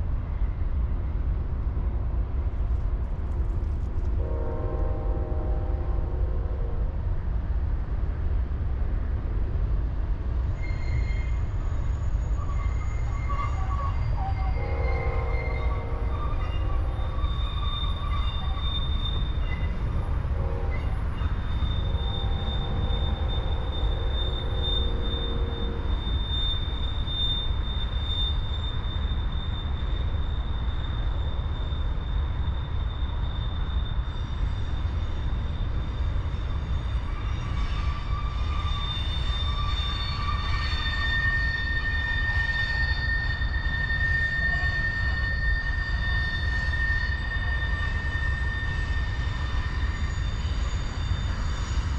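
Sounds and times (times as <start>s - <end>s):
freight train rumbling on rails: 0.0s - 51.9s
high-pitched wheel squeal: 10.3s - 51.9s
lower squeal tone: 10.3s - 51.9s.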